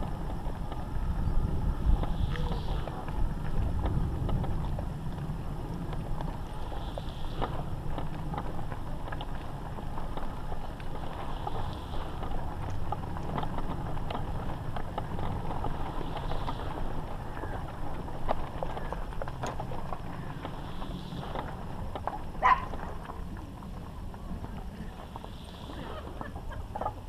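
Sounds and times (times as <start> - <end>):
wheelchair rolling over gravel: 0.0 - 27.0.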